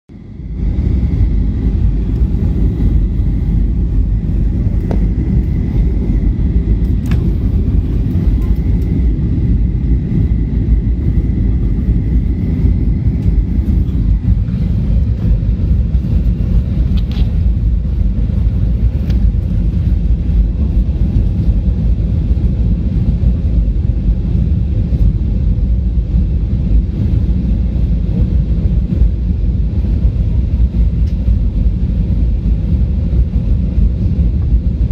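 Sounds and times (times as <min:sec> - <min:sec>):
jet engine rumble in cabin: 0:00.1 - 0:34.9.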